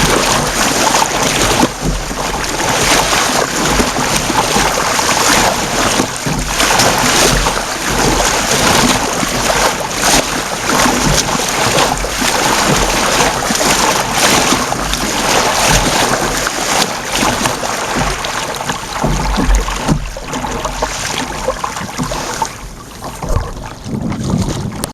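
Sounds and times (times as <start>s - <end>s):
water splashing from paddling: 0.0s - 24.9s
wind buffeting microphone: 0.0s - 24.9s.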